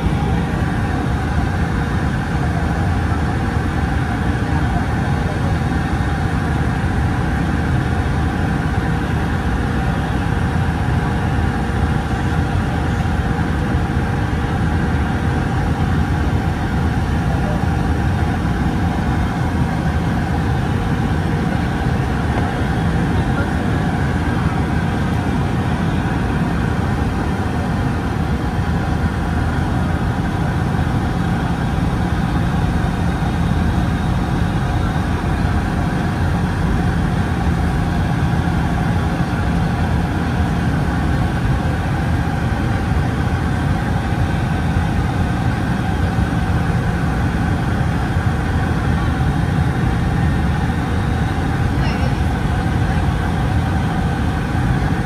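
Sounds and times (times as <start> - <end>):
airliner cabin engine and airflow drone: 0.0 - 55.0.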